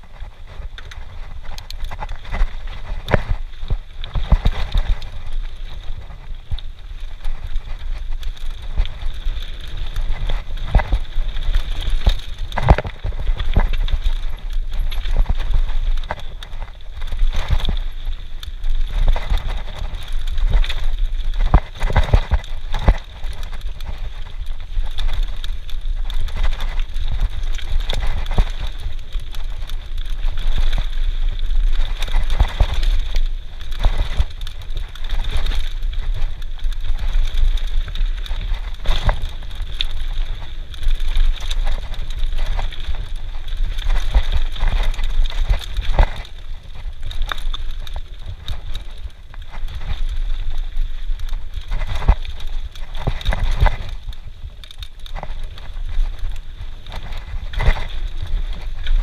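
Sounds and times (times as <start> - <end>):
bike rattling over bumps: 0.0 - 59.0
tyres on dirt: 0.0 - 59.0
wind rumble on microphone: 0.0 - 59.0.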